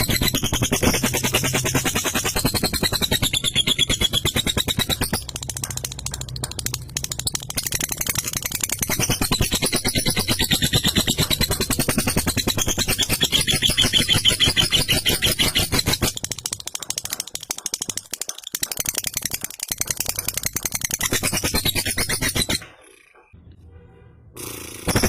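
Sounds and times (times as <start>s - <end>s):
lovebird chattering trill: 0.0s - 23.3s.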